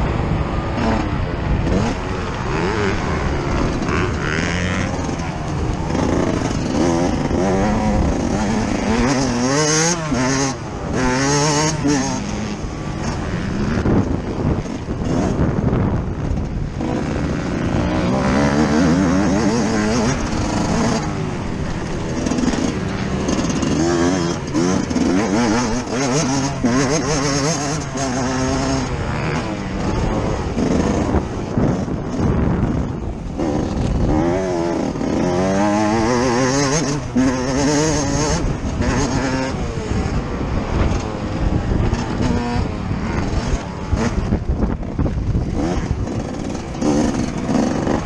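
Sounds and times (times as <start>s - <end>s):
motocross engine revving: 0.0s - 48.0s.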